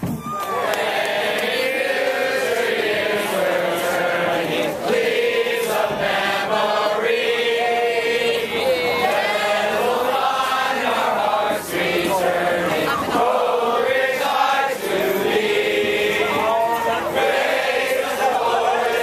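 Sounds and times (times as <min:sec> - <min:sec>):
group singing together: 0:00.5 - 0:19.0.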